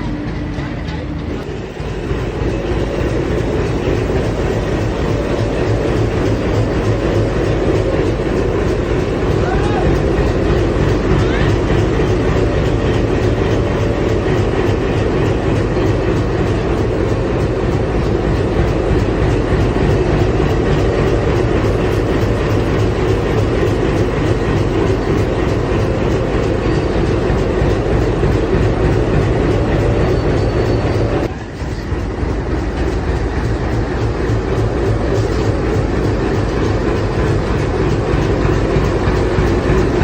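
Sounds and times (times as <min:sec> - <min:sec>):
train rumbling on rails: 0:00.0 - 0:40.0
wheel clatter over rail joints: 0:00.0 - 0:40.0.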